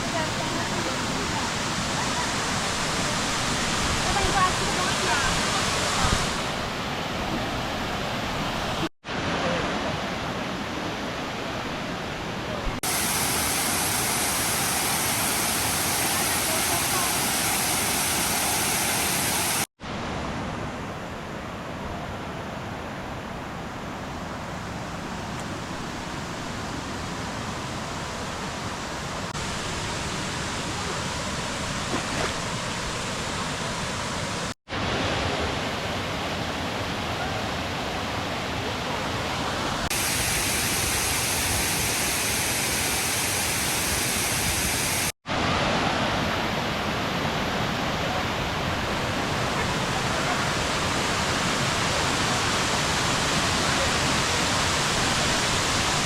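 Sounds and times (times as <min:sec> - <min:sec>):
waterfall rushing: 0:00.0 - 0:20.8, 0:25.1 - 0:56.0.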